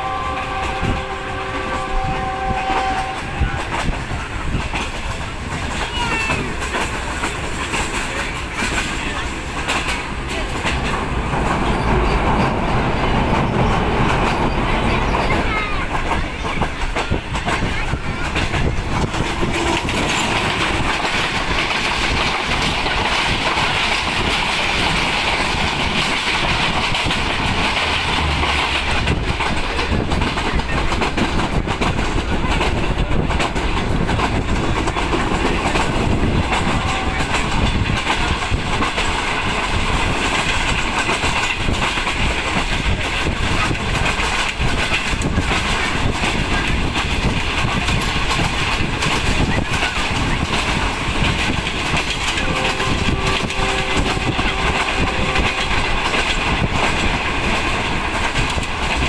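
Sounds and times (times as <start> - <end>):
train running gear rumble: 0.0 - 59.0
wheels clicking over rail joints: 0.0 - 59.0.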